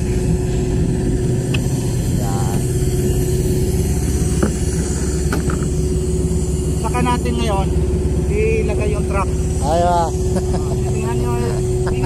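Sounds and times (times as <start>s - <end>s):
engine running with constant hum: 0.0s - 12.0s.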